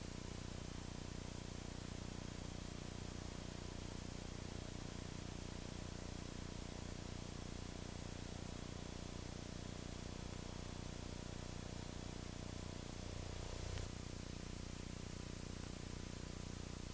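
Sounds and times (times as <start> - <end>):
faint hiss: 0.0 - 16.9.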